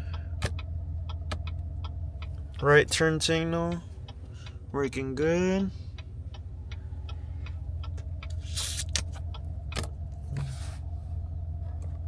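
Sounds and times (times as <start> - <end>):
car engine idling: 0.0 - 12.0
turn signal ticking: 0.0 - 12.0.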